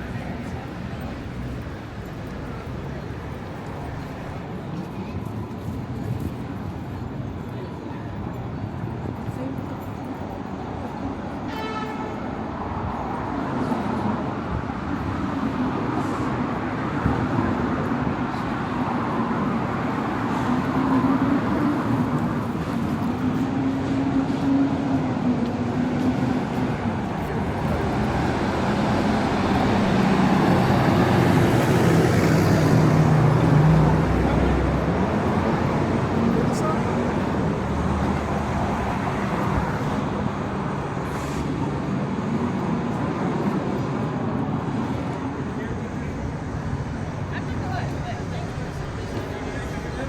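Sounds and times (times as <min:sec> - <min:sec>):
street traffic: 0:00.0 - 0:50.0.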